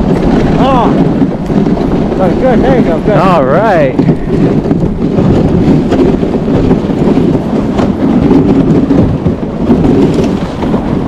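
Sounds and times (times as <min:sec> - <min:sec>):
sled rattling: 0:00.0 - 0:11.0
sled runners scraping on snow: 0:00.0 - 0:11.0.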